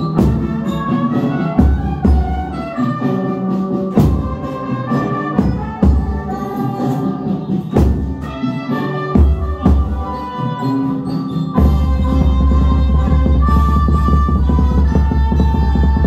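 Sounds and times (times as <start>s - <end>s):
recorded band music: 0.0s - 16.0s.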